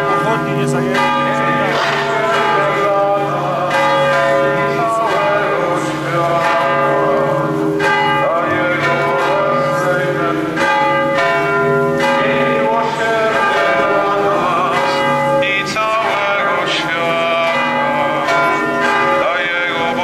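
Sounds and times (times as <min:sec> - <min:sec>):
church bells tolling: 0:00.0 - 0:20.0.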